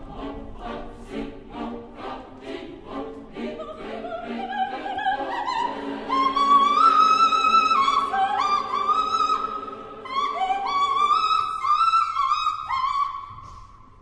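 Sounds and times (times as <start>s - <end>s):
orchestral and choral chords: 0.0s - 13.5s
soprano singing opera: 0.0s - 13.7s.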